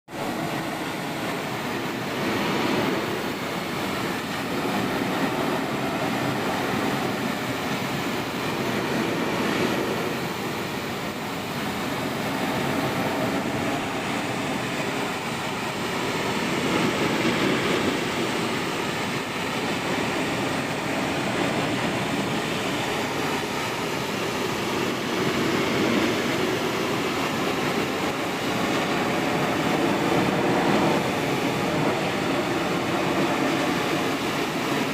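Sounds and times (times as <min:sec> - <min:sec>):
pressure washer spraying wood: 0:00.3 - 0:34.9.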